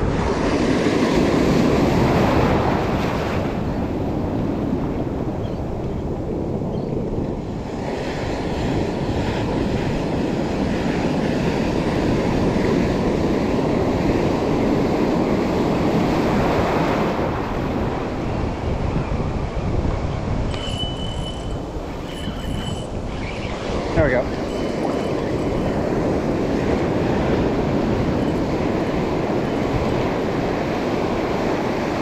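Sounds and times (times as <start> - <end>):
waves washing through surf: 0.0 - 6.7, 7.4 - 20.5, 21.1 - 32.0
wind on microphone: 0.0 - 32.0.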